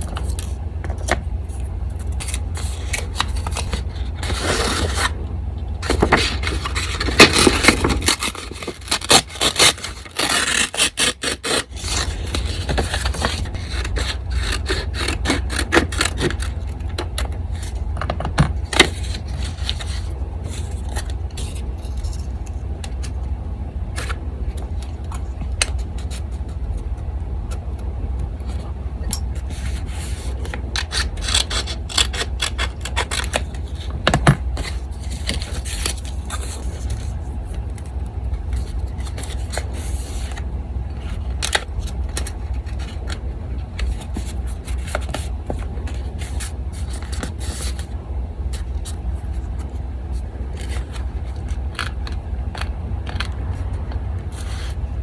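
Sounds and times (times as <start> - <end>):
paper rustling and scraping: 0.0 - 5.2, 5.8 - 17.9, 18.7 - 23.2, 23.9 - 27.0, 28.4 - 55.0
electric fan humming: 0.0 - 55.0.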